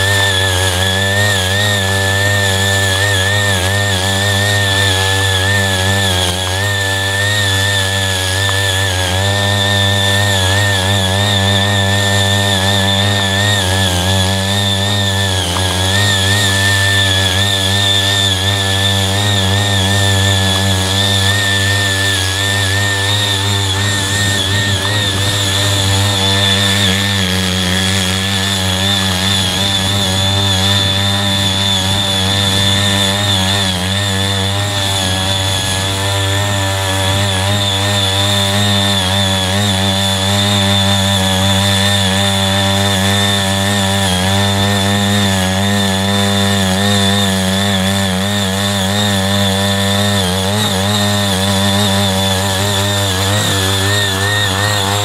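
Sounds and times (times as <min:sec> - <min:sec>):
tiller engine running under load: 0:00.0 - 0:55.0
tines churning soil: 0:00.0 - 0:55.0.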